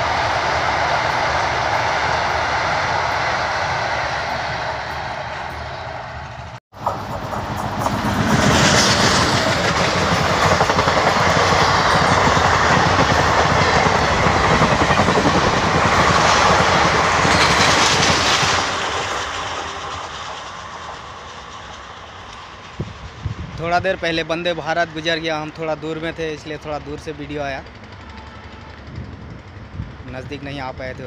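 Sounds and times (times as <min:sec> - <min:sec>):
passenger train passing: 0:00.0 - 0:31.0.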